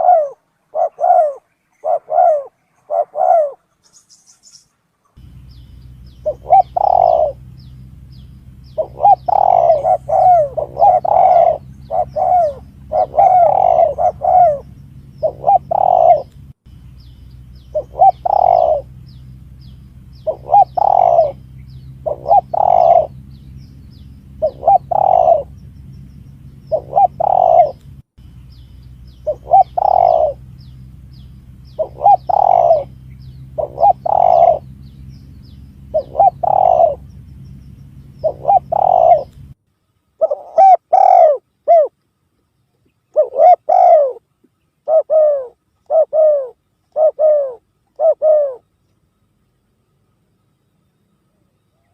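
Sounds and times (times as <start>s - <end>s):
dove cooing: 0.0s - 4.0s, 5.2s - 16.4s, 17.5s - 27.9s, 29.0s - 39.5s, 40.2s - 42.0s, 43.1s - 44.2s, 44.8s - 48.6s
small birds chirping: 0.0s - 51.9s
steady low hum: 0.0s - 51.9s.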